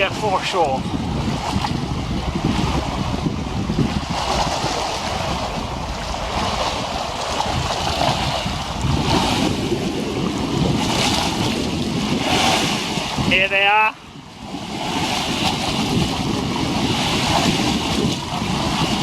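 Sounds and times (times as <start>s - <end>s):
small waves lapping: 0.0s - 19.0s
wind buffeting microphone: 0.0s - 19.0s.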